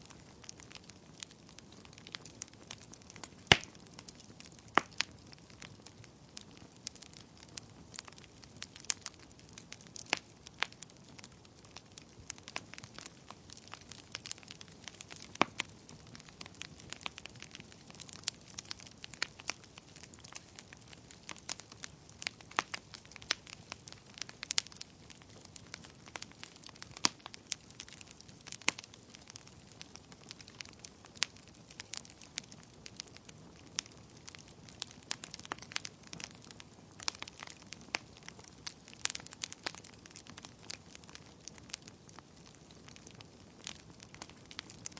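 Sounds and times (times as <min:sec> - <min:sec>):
fire crackling and popping: 0:00.0 - 0:44.9
soft steady hiss: 0:00.0 - 0:44.9.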